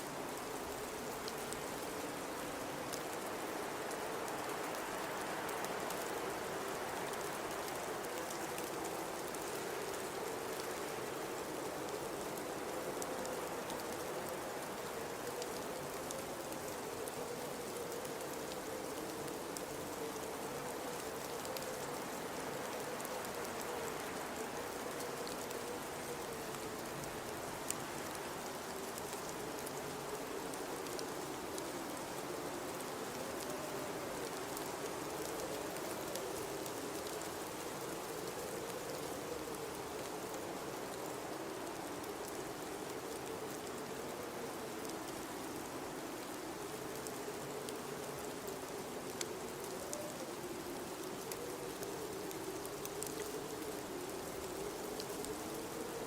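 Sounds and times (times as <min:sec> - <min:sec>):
hiss of wind-driven snow: 0:00.0 - 0:56.0
faint ticks: 0:06.9 - 0:56.0.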